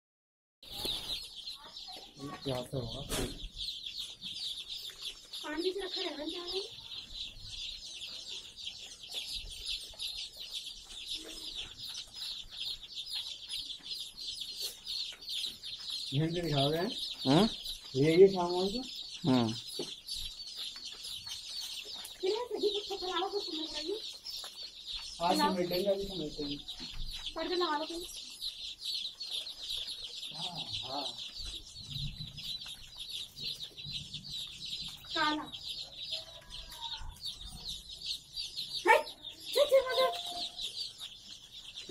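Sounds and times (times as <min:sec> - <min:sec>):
chicks peeping: 0:00.6 - 0:41.9.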